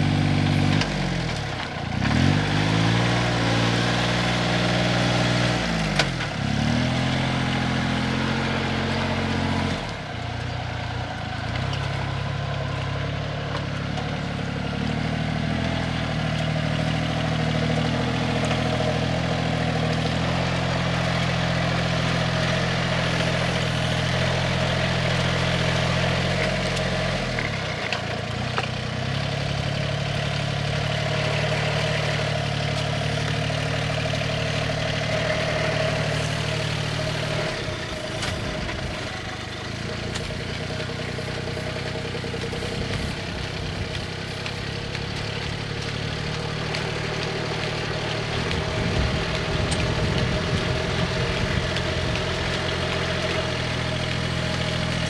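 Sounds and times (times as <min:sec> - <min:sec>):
rice transplanter engine running: 0:00.0 - 0:55.0.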